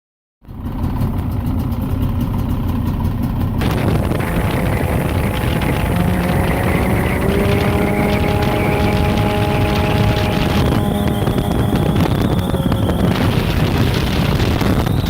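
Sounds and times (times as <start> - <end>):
jet boat engine rumbling: 1.2 - 15.0.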